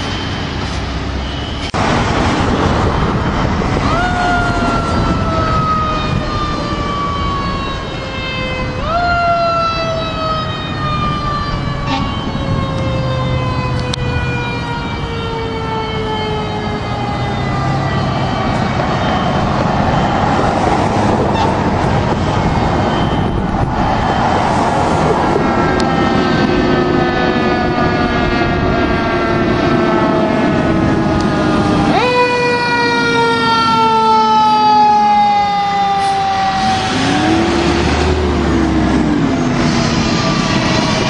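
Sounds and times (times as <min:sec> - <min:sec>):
fire truck siren: 0:00.0 - 0:41.0
traffic rumble: 0:00.0 - 0:41.0.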